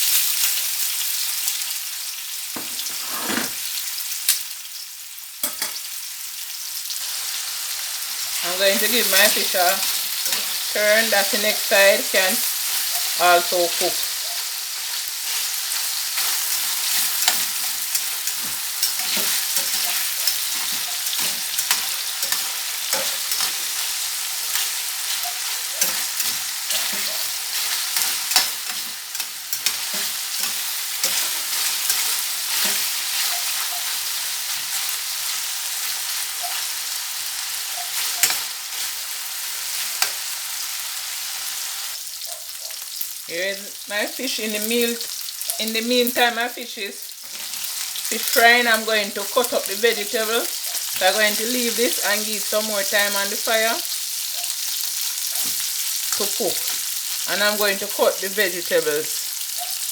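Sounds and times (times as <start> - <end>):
fish frying in oil: 0.0 - 2.7, 3.3 - 59.9.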